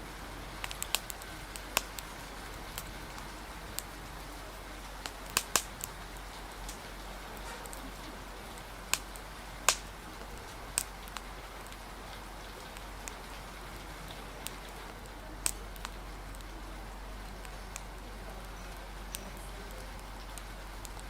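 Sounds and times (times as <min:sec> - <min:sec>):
rain hiss: 0:00.0 - 0:21.0
wood fire crackling: 0:00.0 - 0:21.0.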